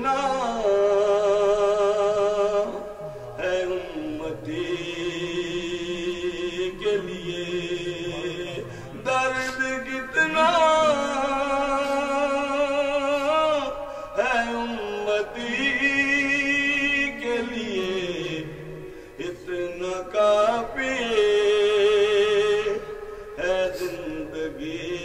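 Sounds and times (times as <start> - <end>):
man chanting through microphone: 0.0 - 25.0.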